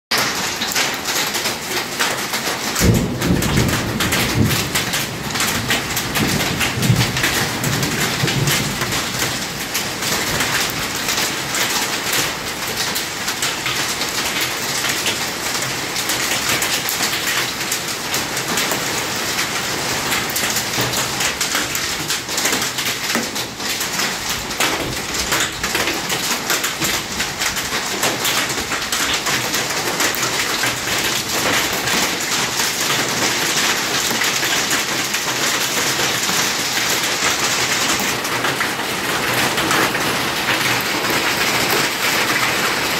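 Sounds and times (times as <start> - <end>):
hail and rain on pavement: 0.1 - 42.9.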